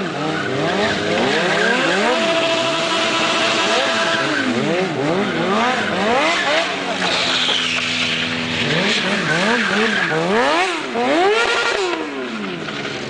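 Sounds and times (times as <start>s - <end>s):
motorcycle engine revving: 0.0s - 13.0s
tire squealing: 0.0s - 13.0s.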